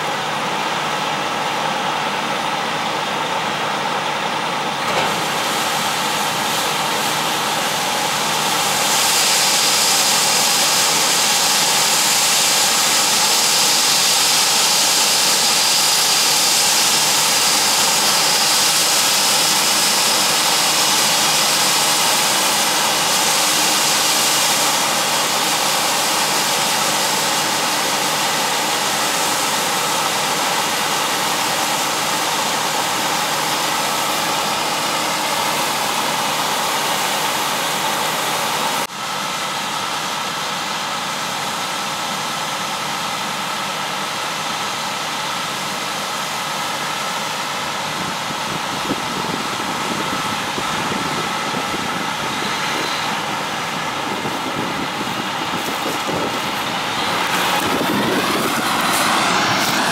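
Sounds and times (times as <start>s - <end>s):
tractor engine running: 0.0s - 59.9s
grain auger rushing hiss: 4.6s - 59.9s.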